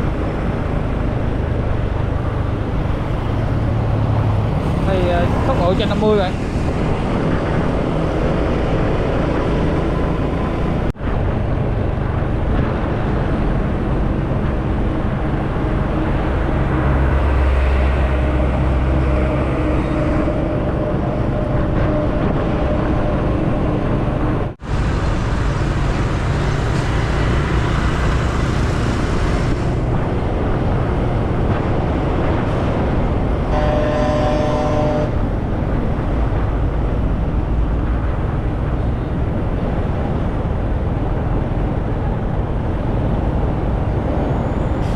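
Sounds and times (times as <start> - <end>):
wind rush over microphone: 0.0 - 44.9.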